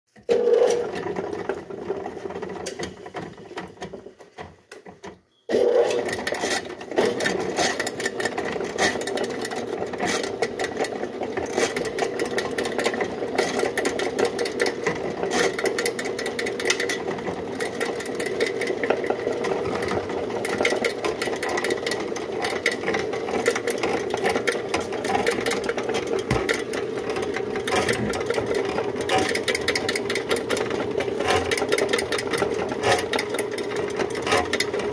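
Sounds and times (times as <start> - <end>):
drain cleaning machine motor: 0.2 - 4.8, 5.5 - 34.9
cable clicking rattle: 6.1 - 34.9.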